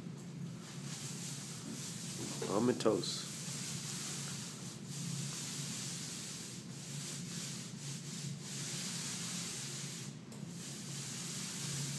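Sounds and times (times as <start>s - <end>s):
paint roller on wall: 0.5s - 11.9s.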